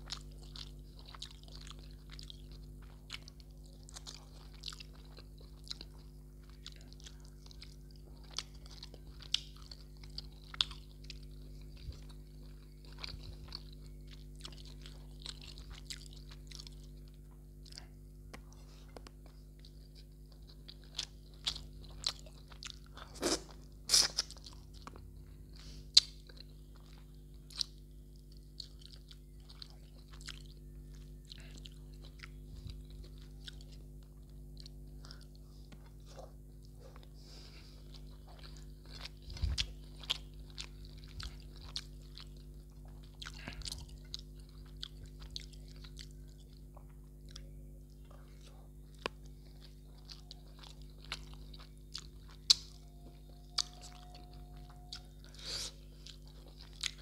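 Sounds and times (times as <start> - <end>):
low electrical hum: 0.0 - 57.0
person chewing with crunches: 0.0 - 57.0.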